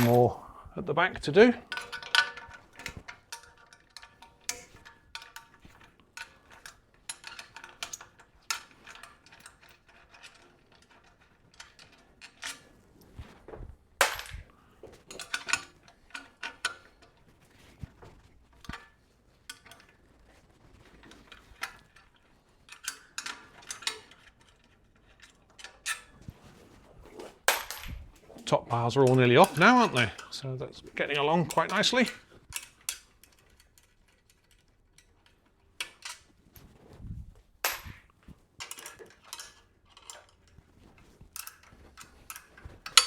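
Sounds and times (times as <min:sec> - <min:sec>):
metal bed frame clinks and knocks: 0:00.0 - 0:00.4, 0:01.3 - 0:43.0.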